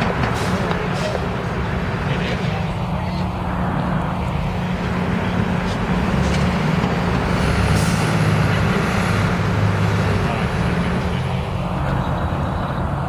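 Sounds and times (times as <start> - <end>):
bus engine running: 0.0 - 13.0
passing car traffic: 0.0 - 13.0.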